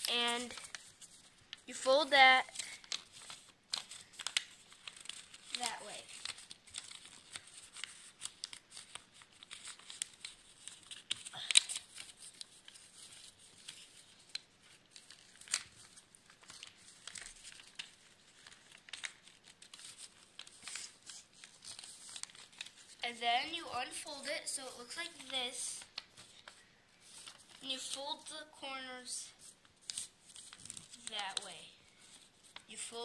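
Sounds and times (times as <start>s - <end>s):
paper rustling and crinkling: 0.0s - 33.0s.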